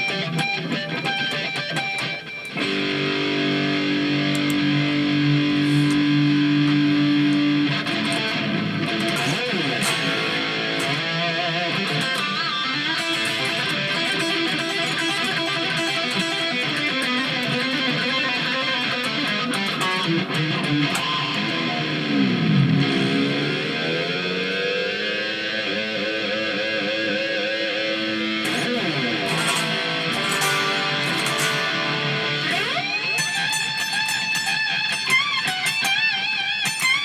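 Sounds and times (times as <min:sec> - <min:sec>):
electric guitar playing: 0:00.0 - 0:37.0.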